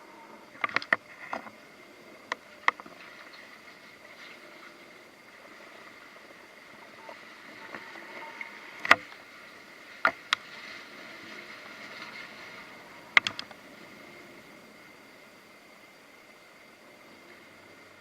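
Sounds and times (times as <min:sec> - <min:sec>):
faint steady hum: 0:00.0 - 0:18.0
water lapping: 0:00.0 - 0:18.0.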